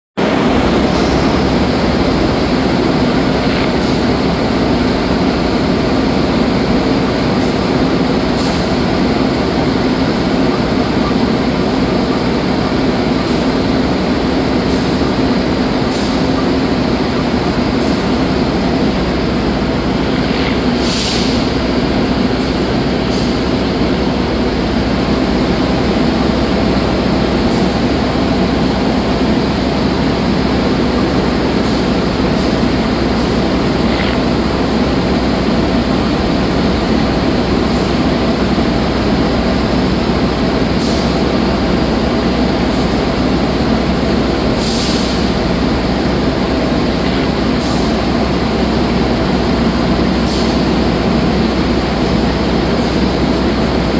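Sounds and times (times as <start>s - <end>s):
diesel engine idling: 0.2s - 53.9s.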